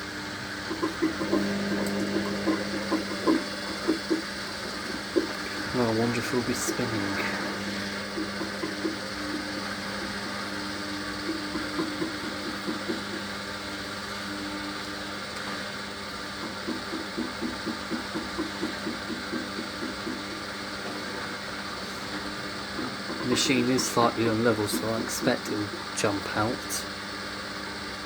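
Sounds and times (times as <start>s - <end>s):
washer drum motor humming: 0.0s - 28.0s.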